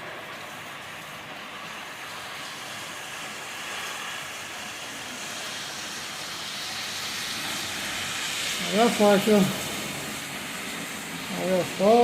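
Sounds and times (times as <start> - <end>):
heavy rain: 0.0 - 12.0
storm wind: 0.0 - 12.0.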